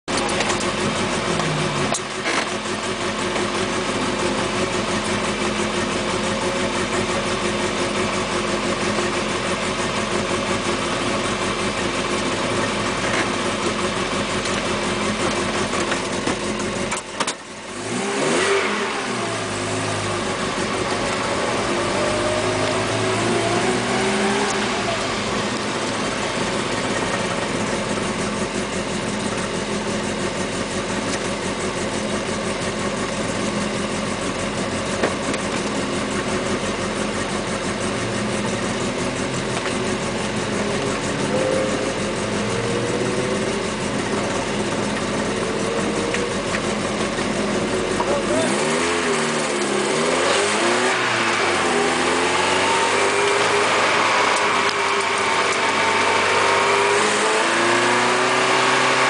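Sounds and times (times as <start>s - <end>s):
car engine pulling under load: 8.7s - 59.0s.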